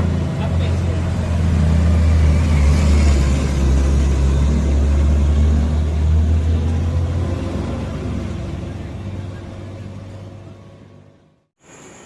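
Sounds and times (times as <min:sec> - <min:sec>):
vehicle engine rumbling: 0:00.0 - 0:11.4.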